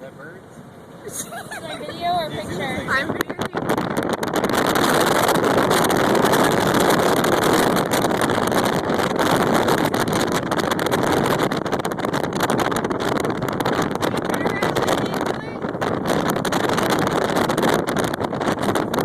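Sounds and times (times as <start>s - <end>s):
strong wind buffeting microphone: 0.1s - 19.0s.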